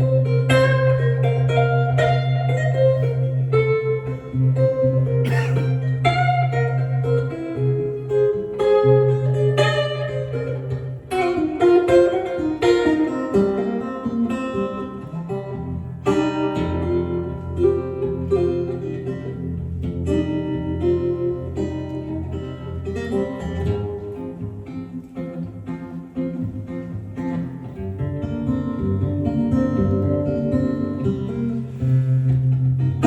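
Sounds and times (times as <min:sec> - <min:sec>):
picked guitar melody: 0:00.0 - 0:33.0.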